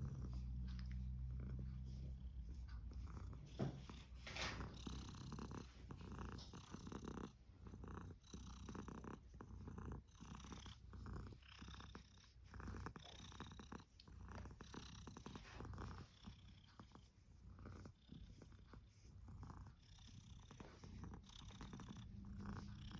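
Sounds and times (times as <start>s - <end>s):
cat purring: 0.0s - 22.9s.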